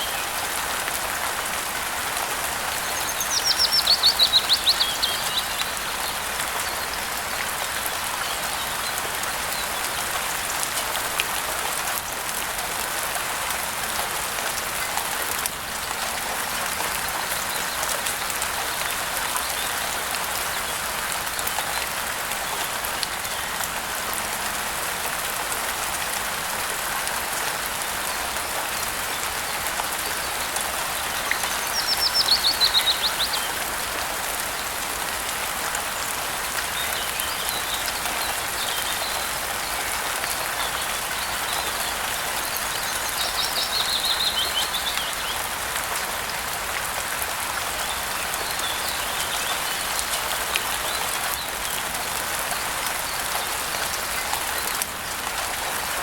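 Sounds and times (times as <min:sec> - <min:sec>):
rain falling: 0:00.0 - 0:56.0
raindrops pattering: 0:00.0 - 0:56.0.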